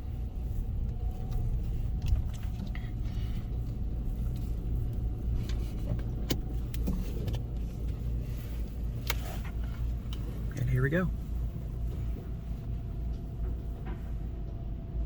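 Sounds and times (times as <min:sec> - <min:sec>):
car wash rumble inside car: 0:00.0 - 0:15.0.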